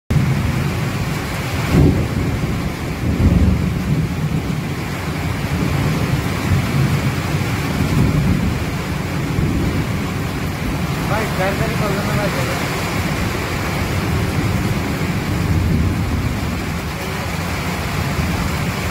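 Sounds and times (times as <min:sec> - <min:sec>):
heavy rain: 0:00.1 - 0:18.9
thunder rumbling: 0:00.1 - 0:18.9.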